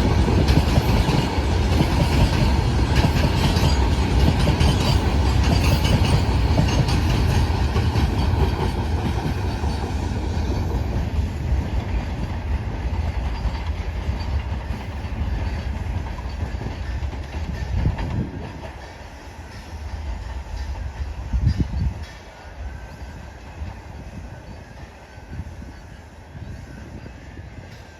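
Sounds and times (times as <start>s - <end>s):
train wheels clattering on rails: 0.0s - 27.9s.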